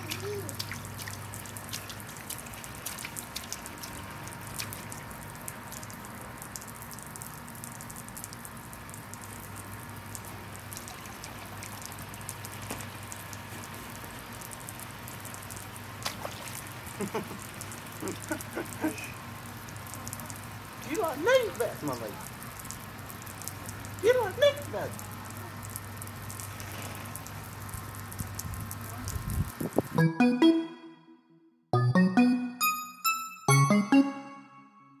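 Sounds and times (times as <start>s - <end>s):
sprinkler water spraying and splashing: 0.0s - 30.0s.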